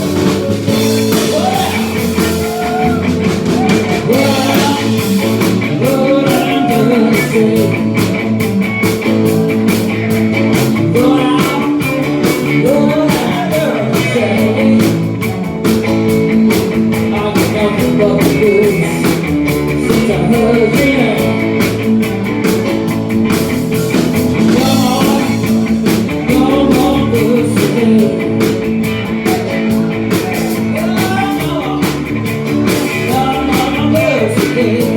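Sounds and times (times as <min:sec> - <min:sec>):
rock music with singing: 0:00.0 - 0:34.9.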